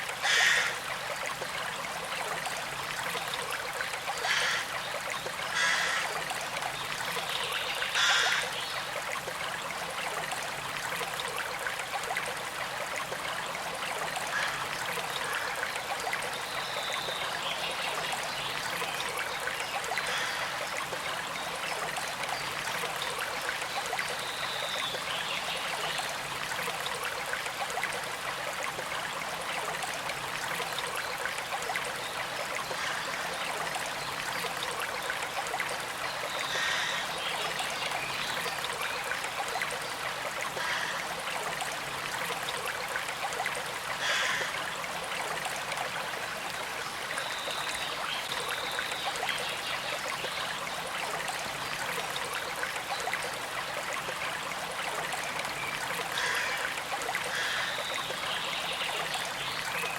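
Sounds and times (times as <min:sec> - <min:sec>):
creek water over stones: 0:00.0 - 0:59.9.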